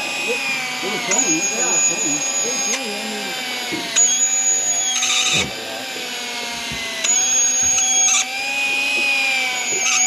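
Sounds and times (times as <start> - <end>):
fishing reel motor whining: 0.0 - 10.0.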